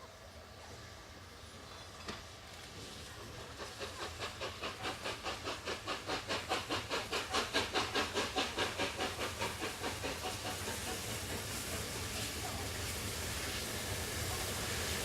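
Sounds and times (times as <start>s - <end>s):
steam locomotive exhaust chuffs: 0.9s - 15.0s.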